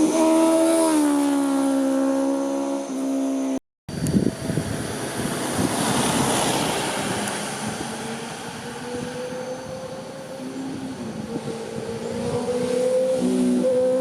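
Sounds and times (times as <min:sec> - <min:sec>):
motorcycle flying past: 0:00.0 - 0:03.6, 0:04.2 - 0:14.0
motorcycle engine approaching: 0:00.0 - 0:14.0.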